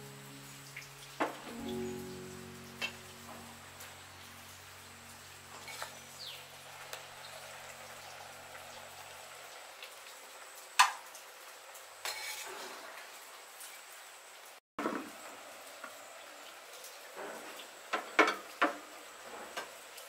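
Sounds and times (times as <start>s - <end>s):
pot boiling with soft hiss: 2.5s - 20.0s.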